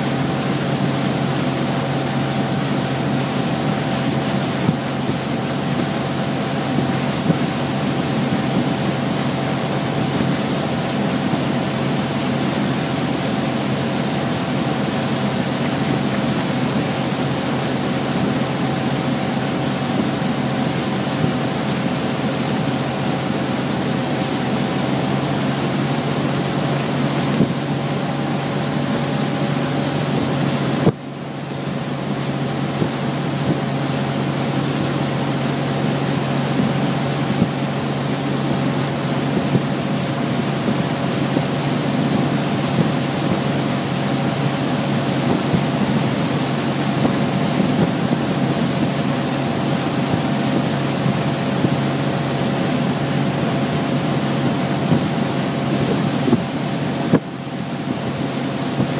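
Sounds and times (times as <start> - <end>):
boat engine running: 0.0 - 58.9
wake and wind rushing: 0.1 - 58.9.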